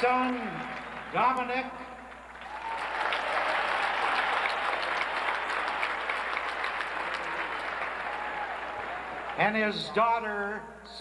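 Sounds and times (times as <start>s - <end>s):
stadium crowd applauding: 0.0s - 10.0s.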